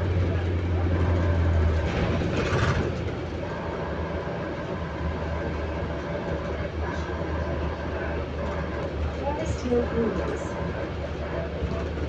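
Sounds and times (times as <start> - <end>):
bus drivetrain drone: 0.0 - 12.0
road and rattle noise: 0.0 - 12.0.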